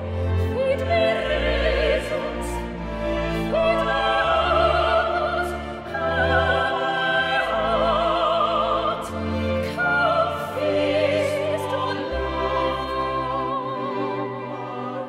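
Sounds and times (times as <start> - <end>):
orchestra holding chords: 0.0 - 15.0
soprano singing with vibrato: 0.4 - 2.6, 3.4 - 15.0.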